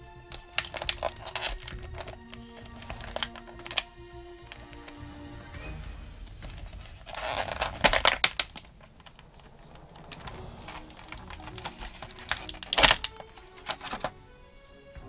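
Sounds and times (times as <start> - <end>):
plastic packaging crackling: 0.3 - 5.0, 6.5 - 14.1.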